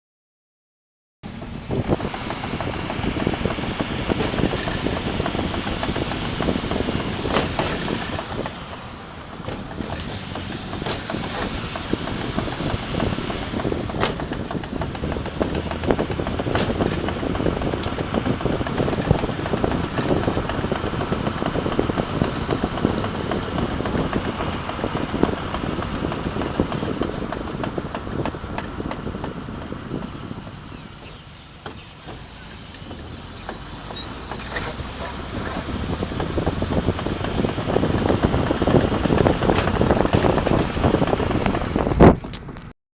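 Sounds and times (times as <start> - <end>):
car engine and road noise: 1.2 - 42.8
wheel popping: 1.3 - 42.7.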